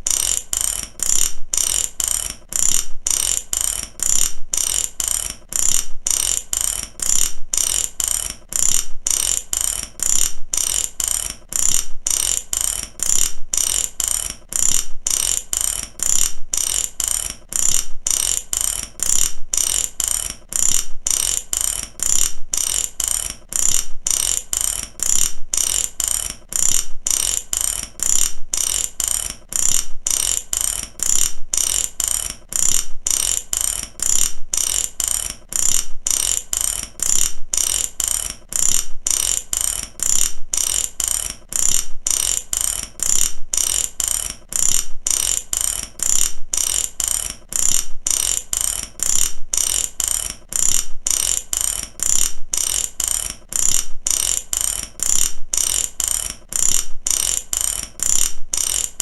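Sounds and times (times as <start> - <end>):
ratchet wrench clicking: 0.0 - 59.0.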